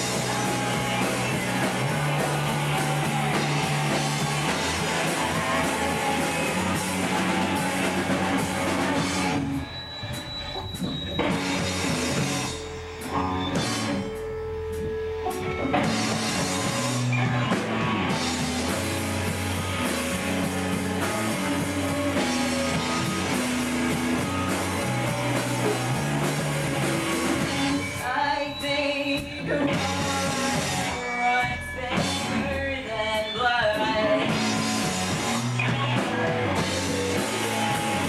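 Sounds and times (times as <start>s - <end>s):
drum kit: 0.0s - 38.0s
electric guitars: 0.0s - 38.0s.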